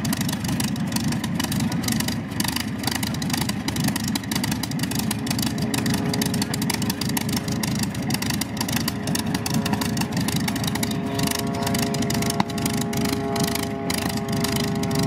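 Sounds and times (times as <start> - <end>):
aircraft piston engine running: 0.0 - 15.0
faint steady whine: 2.8 - 15.0.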